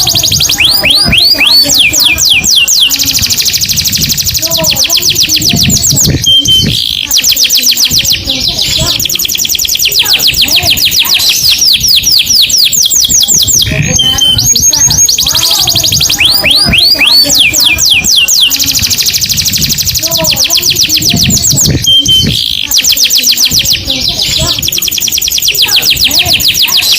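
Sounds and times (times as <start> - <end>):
canary singing trills: 0.0 - 26.9.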